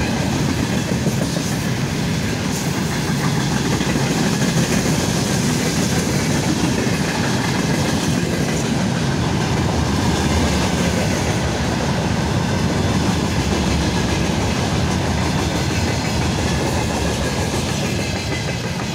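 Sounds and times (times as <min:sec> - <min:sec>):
freight train wheels on rails: 0:00.0 - 0:18.9.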